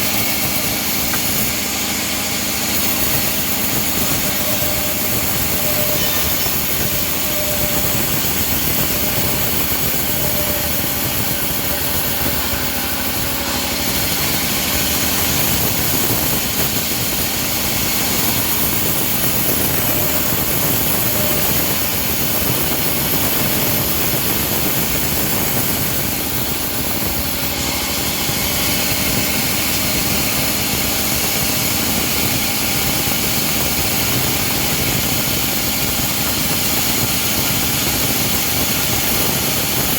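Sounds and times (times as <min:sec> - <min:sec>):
bandsaw mill engine running: 0:00.0 - 0:39.9
blade sawing log hiss: 0:00.0 - 0:39.9.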